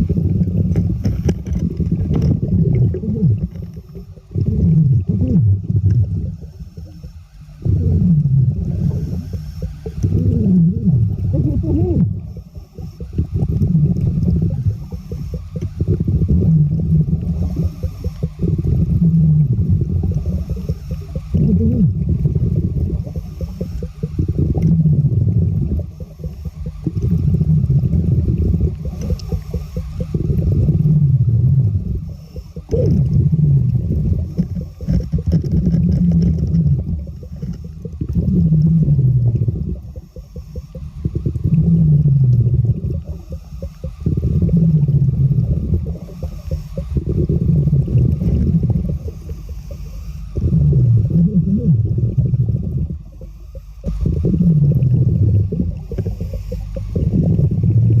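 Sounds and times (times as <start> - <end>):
bubbles gurgling underwater: 0.0 - 6.9, 7.6 - 58.0
regulator hiss: 0.0 - 58.0.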